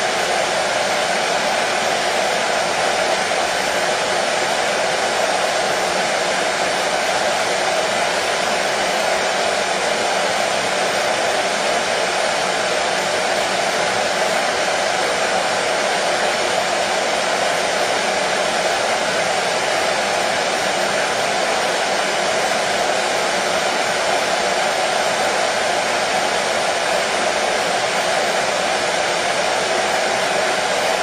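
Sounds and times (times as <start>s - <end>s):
hair dryer blowing air: 0.0s - 31.0s.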